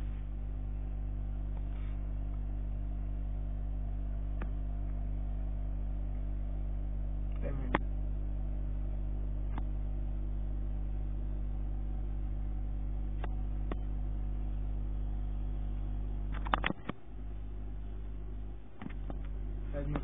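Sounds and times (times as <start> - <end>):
scanner motor humming: 0.0 - 20.0.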